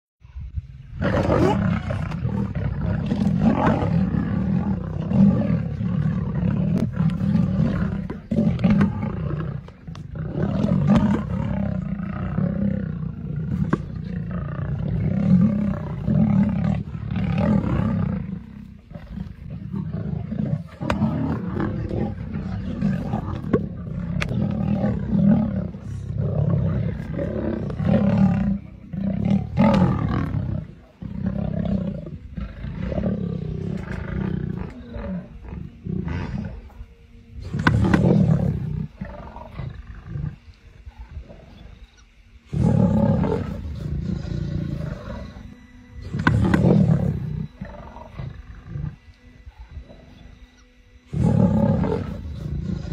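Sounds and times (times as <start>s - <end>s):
lions growling and roaring: 0.8s - 52.9s.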